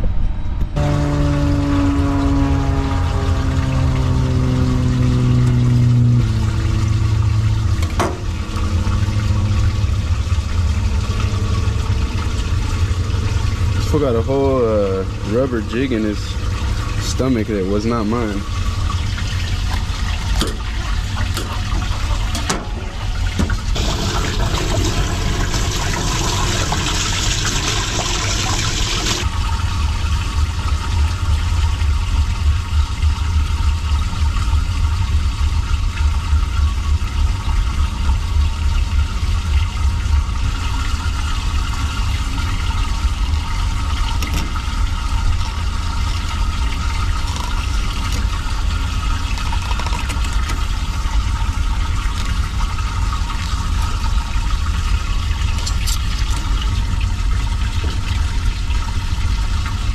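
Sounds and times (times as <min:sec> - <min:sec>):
steady low rumble: 0:00.0 - 0:59.9
running water: 0:00.8 - 0:59.9.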